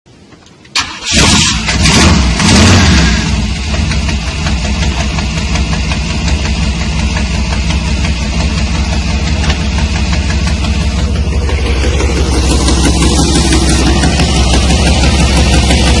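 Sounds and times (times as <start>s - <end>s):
car engine idling: 0.1s - 16.0s.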